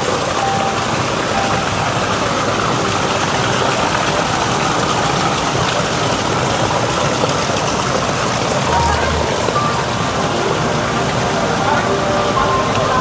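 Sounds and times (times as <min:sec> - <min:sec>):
water feature rushing: 0:00.0 - 0:13.0.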